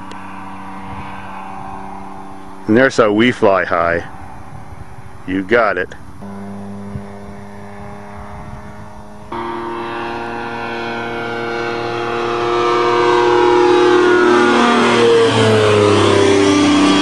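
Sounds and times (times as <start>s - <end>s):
small plane engine droning: 0.0s - 17.0s.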